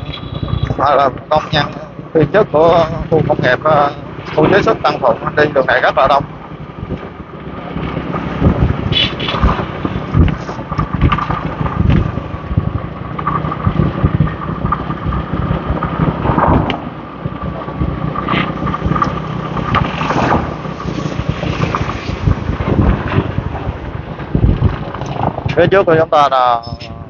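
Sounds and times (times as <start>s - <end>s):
motorbike engine running: 0.0s - 26.1s
wind buffeting microphone: 0.0s - 27.0s.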